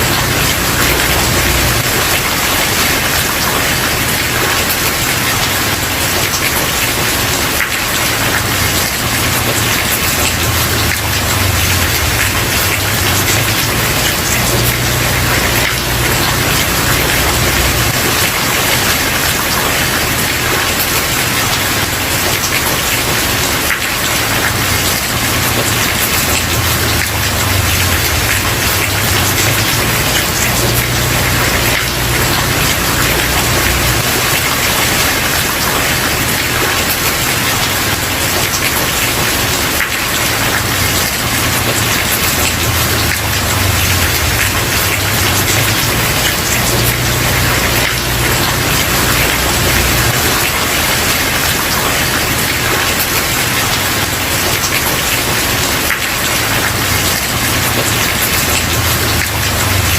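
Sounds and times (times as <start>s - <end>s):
rain on a wooden porch: 0.0s - 59.9s.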